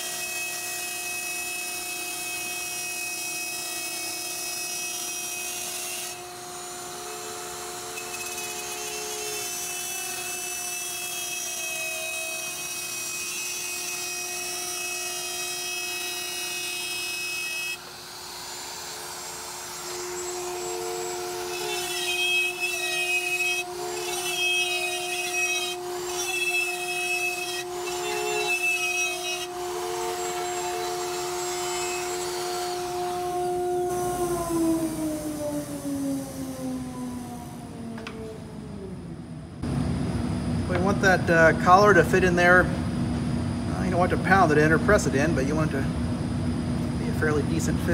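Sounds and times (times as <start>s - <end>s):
router whining cutting wood: 0.0s - 39.1s.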